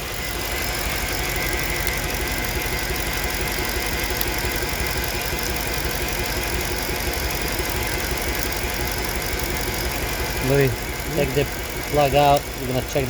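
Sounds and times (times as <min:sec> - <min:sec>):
engine idling unevenly: 0:00.0 - 0:13.0.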